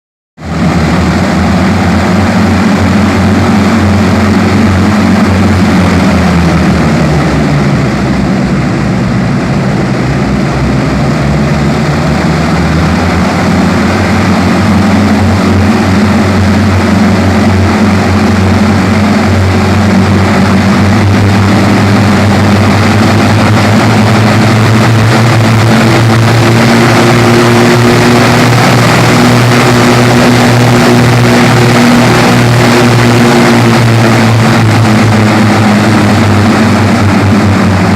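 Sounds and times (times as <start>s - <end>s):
propeller engines droning: 0.4s - 37.9s.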